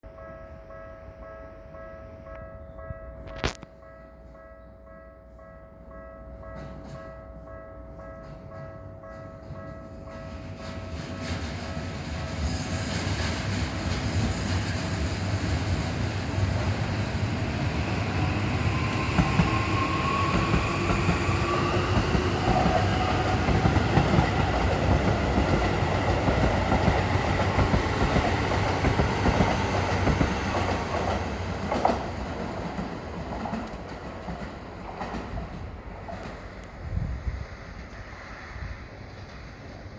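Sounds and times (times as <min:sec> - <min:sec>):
train rumble: 0:00.1 - 0:39.9.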